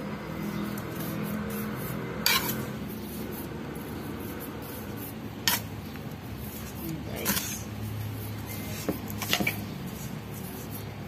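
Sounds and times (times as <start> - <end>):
ladle scraping through mixture: 0.5 - 11.0.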